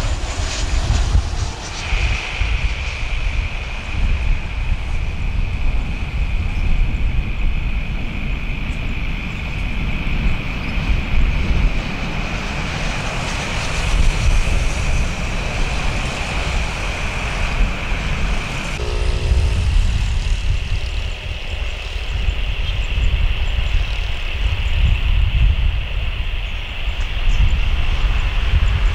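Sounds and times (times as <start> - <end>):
jet engines rumbling and whining: 0.0 - 28.9.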